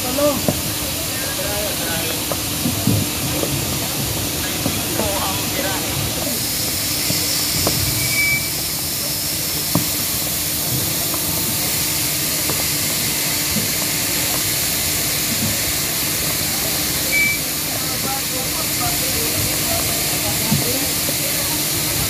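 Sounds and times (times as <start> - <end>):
air hissing through hoses: 0.0 - 22.0.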